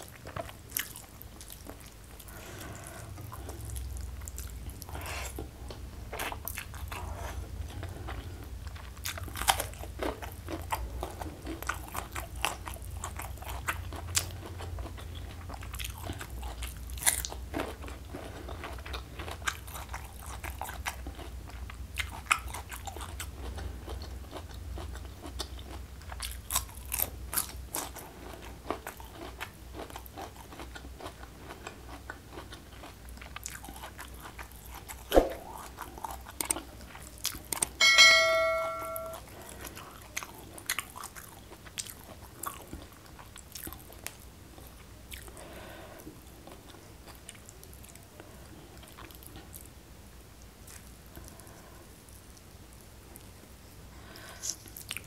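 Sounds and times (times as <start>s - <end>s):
chewing with crunchy bites: 0.0s - 37.8s, 39.2s - 49.8s, 50.4s - 55.0s.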